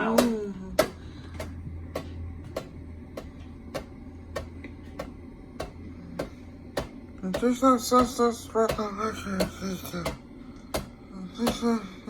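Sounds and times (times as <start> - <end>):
wobbling fan ticking: 0.0 - 11.8
ceiling fan hum: 0.0 - 12.0.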